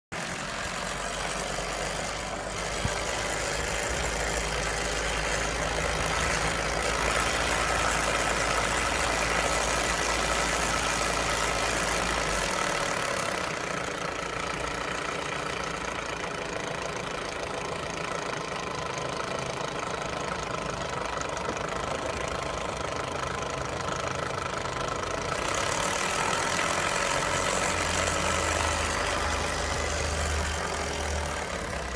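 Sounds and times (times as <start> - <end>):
car engine idling with rattle: 0.1 - 31.9.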